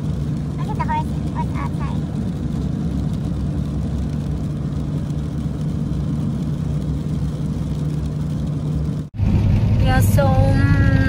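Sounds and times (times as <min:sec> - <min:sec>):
car road noise on wet road: 0:00.0 - 0:11.0.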